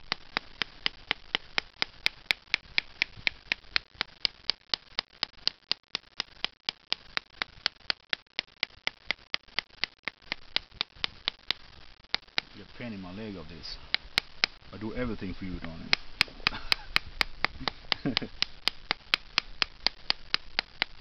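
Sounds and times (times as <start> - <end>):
tapping on a wooden stick: 0.0 - 12.6, 13.4 - 21.0.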